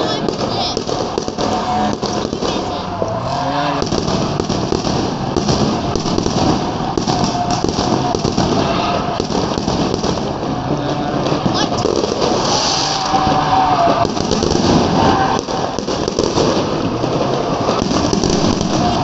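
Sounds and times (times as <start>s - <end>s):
fireworks crackling and popping: 0.0s - 19.0s.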